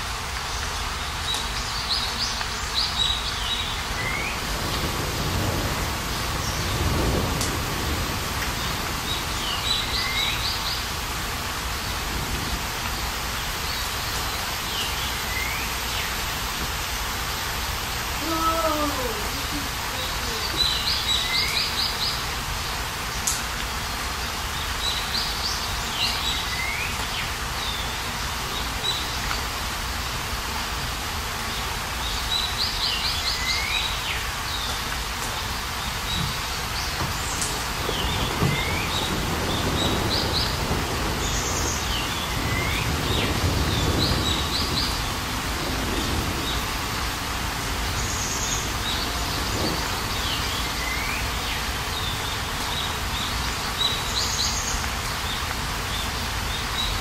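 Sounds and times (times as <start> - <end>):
heavy rain on a patio: 0.0 - 57.0.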